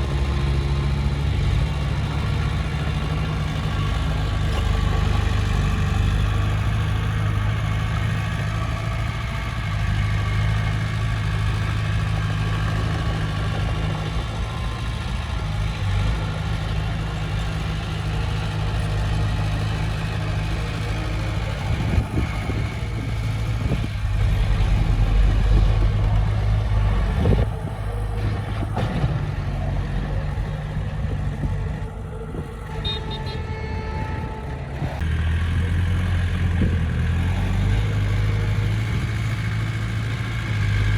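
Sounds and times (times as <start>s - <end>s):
diesel engine of earthmoving equipment: 0.0s - 40.9s.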